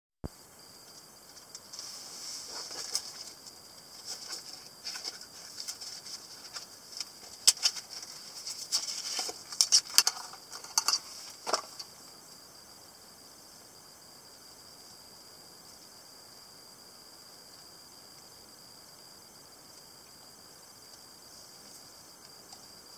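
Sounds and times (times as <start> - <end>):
faint steady hiss: 0.2 - 22.9.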